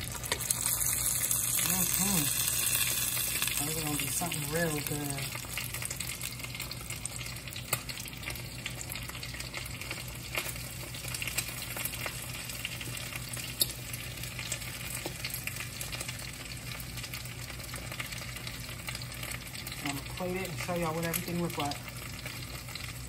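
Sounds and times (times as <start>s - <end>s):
egg rolls sizzling in oil: 0.0s - 23.0s.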